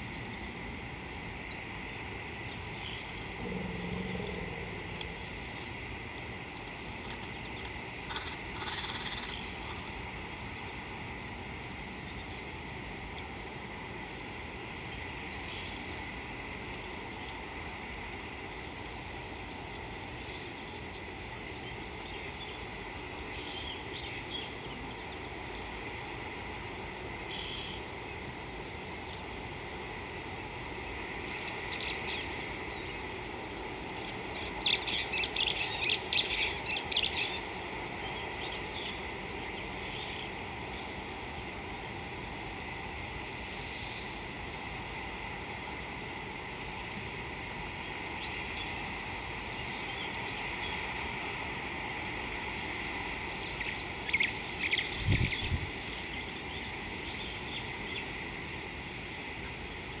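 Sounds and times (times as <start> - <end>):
insect chirping in pulses: 0.0 - 60.0.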